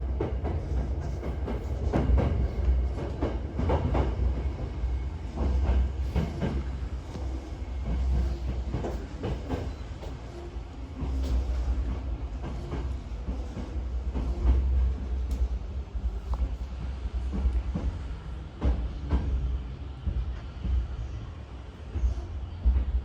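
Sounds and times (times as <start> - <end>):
electric train rumbling on rails: 0.0 - 23.0
train wheel clatter: 0.0 - 23.0.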